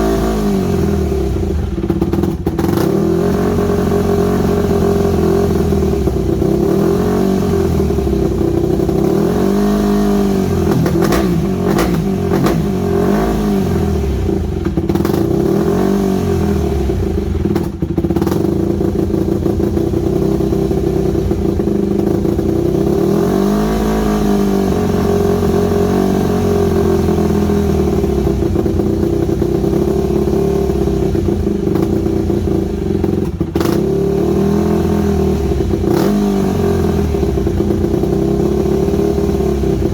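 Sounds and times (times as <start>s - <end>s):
dirt bike engine revs rising and sagging: 0.0s - 39.9s.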